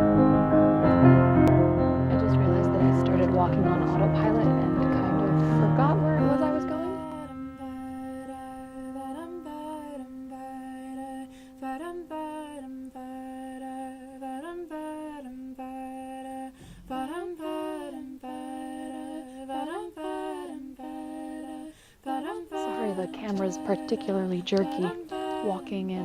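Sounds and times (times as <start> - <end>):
woman humming a slow melody: 1.4 - 26.0.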